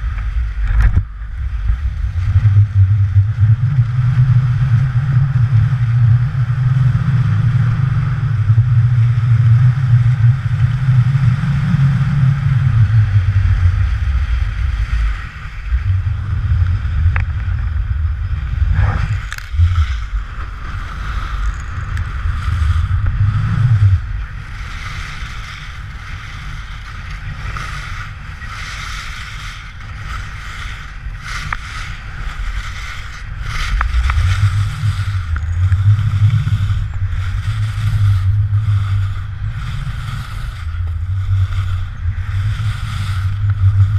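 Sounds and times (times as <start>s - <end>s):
skis scraping over snow: 0.0s - 43.9s
wind buffeting microphone: 0.0s - 43.9s.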